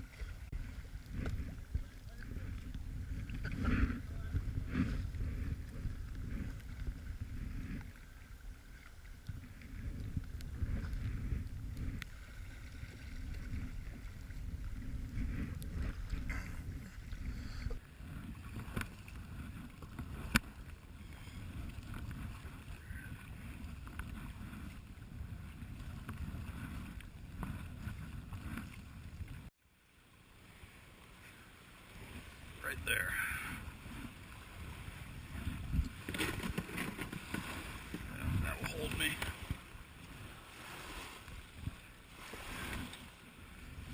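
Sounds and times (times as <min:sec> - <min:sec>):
kayak paddle splashes and knocks: 0:00.0 - 0:29.5, 0:33.4 - 0:43.9
wind rumbling on microphone: 0:00.0 - 0:29.6, 0:31.9 - 0:43.9.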